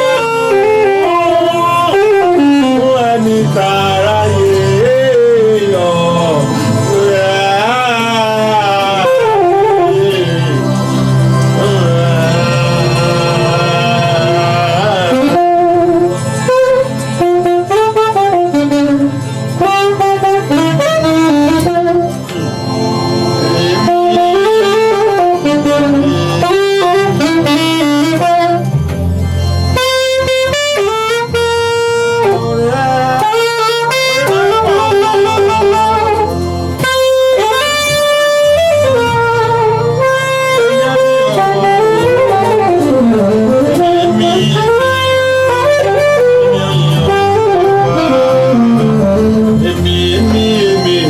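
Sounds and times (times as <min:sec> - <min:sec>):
band backing: 0:00.0 - 0:51.0
saxophone melody: 0:00.0 - 0:51.0.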